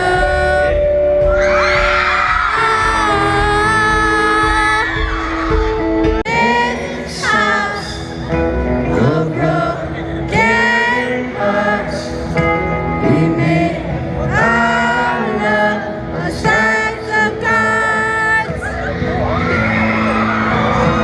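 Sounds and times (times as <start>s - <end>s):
crowd singing along: 0.0s - 18.9s
live pop band playing: 0.0s - 21.0s.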